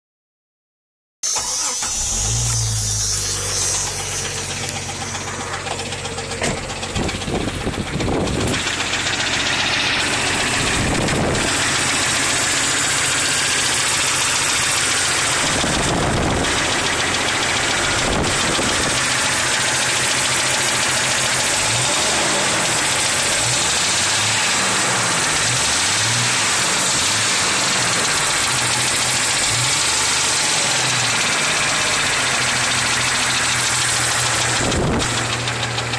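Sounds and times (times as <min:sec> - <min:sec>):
car engine running: 0:01.3 - 0:35.9
engine knocking: 0:03.4 - 0:35.9.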